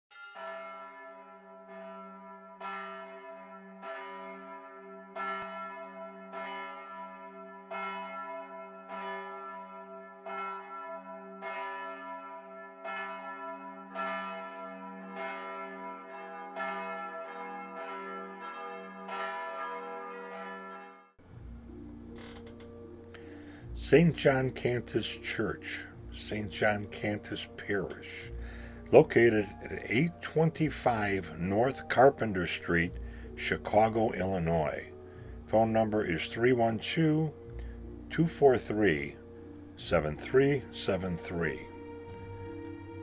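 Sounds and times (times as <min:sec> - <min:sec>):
church bells ringing: 0:00.1 - 0:43.0.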